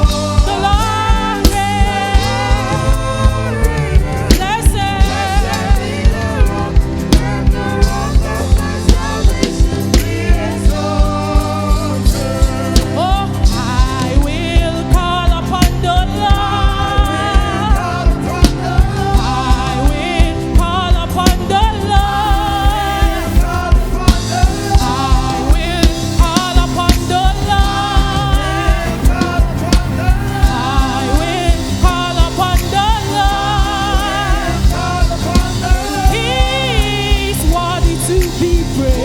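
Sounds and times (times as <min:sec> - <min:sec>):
band playing: 0:00.0 - 0:39.0
gospel singing: 0:00.0 - 0:39.0
steady drum beat: 0:00.0 - 0:39.0.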